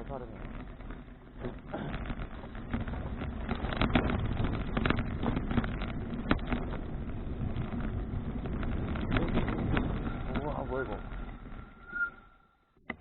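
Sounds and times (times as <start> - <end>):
bicycle rattling knocks: 0.0 - 11.6
wind rumbling on microphone: 0.0 - 12.2.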